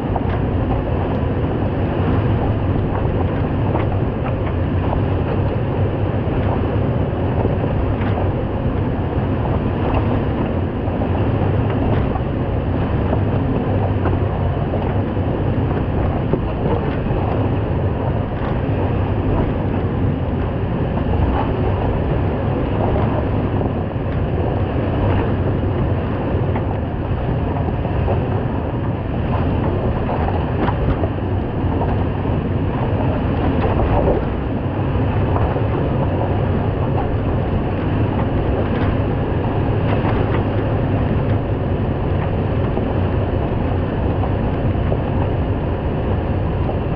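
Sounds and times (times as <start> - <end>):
vehicle rumbling on rough ground: 0.0 - 46.9.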